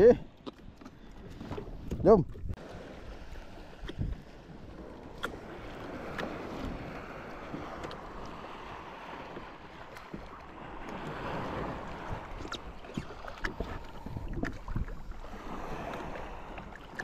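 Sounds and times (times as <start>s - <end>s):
wind and lapping waves: 0.0s - 17.0s.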